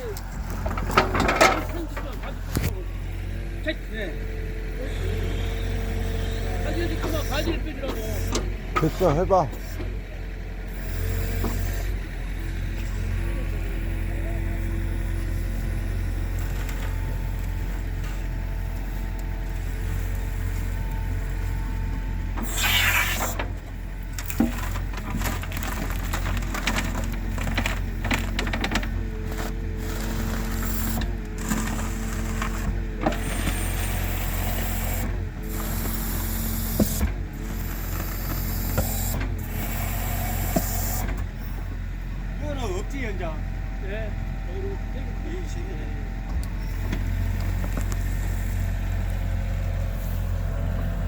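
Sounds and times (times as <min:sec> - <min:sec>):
excavator engine running: 0:00.0 - 0:51.0.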